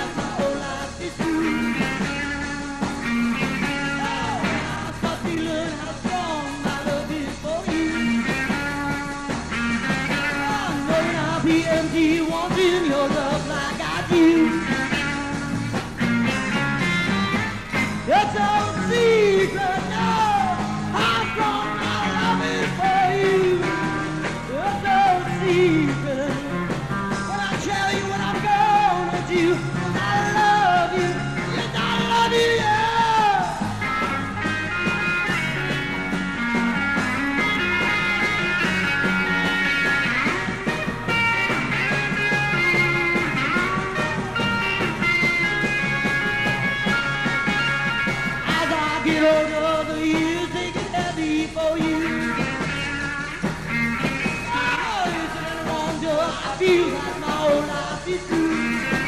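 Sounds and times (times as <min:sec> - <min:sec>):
instrumental rock music: 0:00.0 - 0:59.0.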